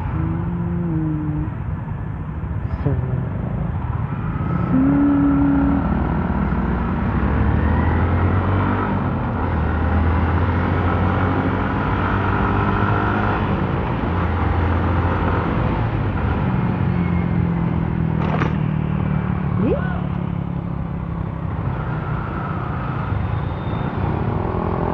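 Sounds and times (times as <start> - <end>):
road noise: 0.0 - 24.9.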